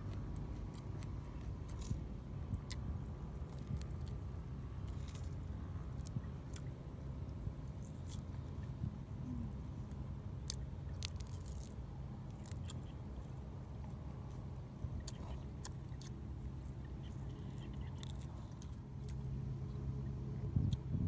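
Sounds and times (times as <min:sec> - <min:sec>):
person chewing and biting: 0:00.0 - 0:06.7, 0:07.7 - 0:08.8, 0:10.4 - 0:20.0
low hum: 0:00.0 - 0:21.0.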